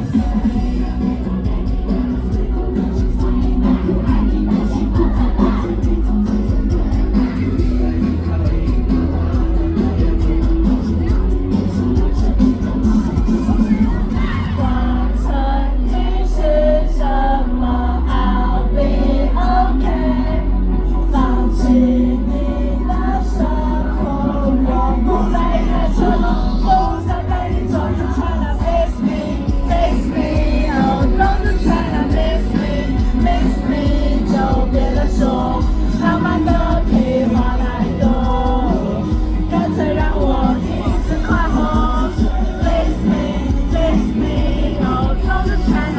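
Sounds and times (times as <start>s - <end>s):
female vocal pop music: 0.0s - 45.9s
heavy bass: 0.0s - 45.9s.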